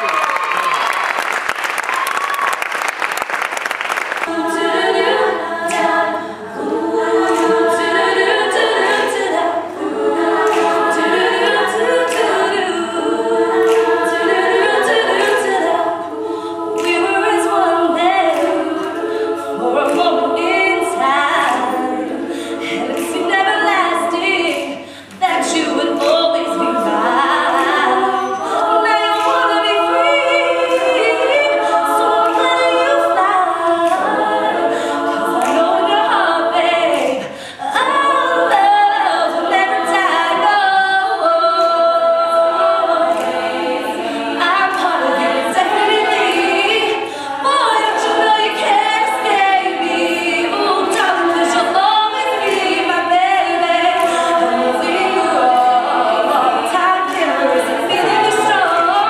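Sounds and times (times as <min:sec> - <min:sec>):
backing vocal harmonies: 0:03.9 - 0:59.0.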